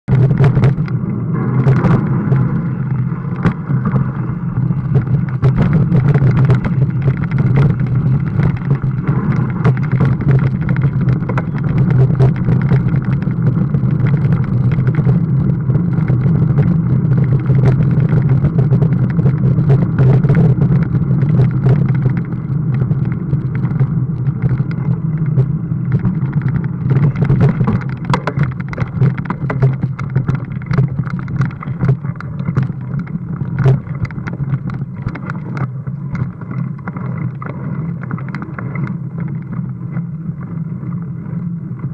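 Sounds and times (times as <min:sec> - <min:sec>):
wind rumble: 0:00.0 - 0:41.9
bike knocks and rattles: 0:00.1 - 0:41.9.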